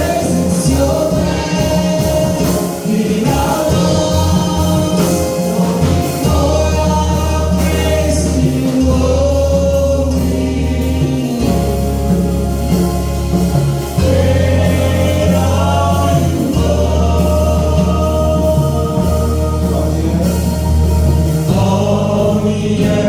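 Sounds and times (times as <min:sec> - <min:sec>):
choir singing gospel: 0:00.0 - 0:23.0
instrumental accompaniment: 0:00.0 - 0:23.0
steady bass line: 0:00.0 - 0:23.0.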